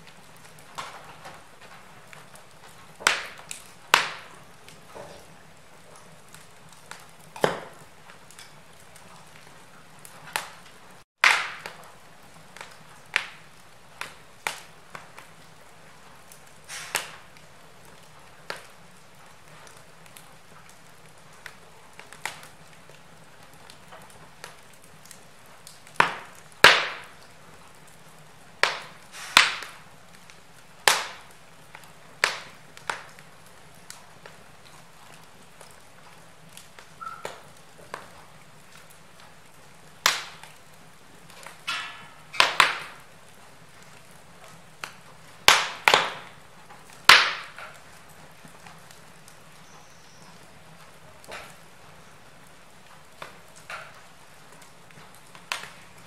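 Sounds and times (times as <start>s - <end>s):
fire low hiss: 0.0s - 56.0s
wood fire popping and snapping: 0.0s - 56.0s.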